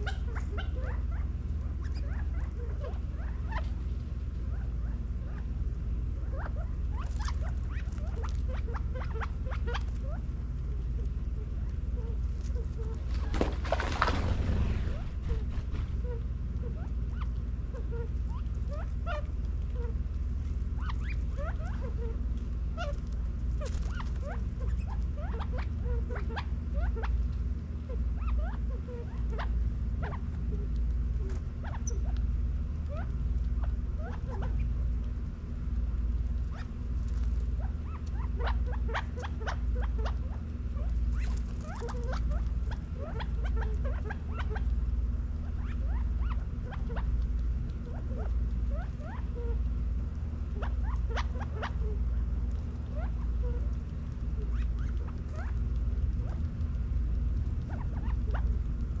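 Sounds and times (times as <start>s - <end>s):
quail chirping and clucking: 0.0s - 35.2s, 36.2s - 59.0s
low hum: 0.0s - 59.0s.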